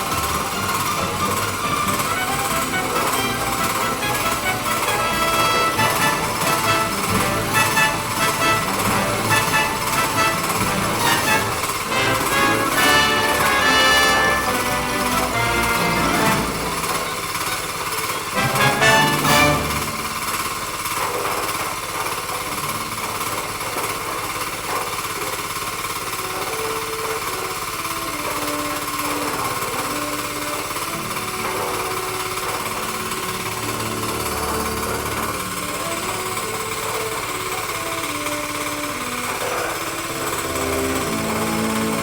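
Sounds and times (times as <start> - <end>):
faint melody of held notes: 0.0 - 20.4, 26.4 - 42.0
concrete mixer clatter and drone: 0.0 - 42.0.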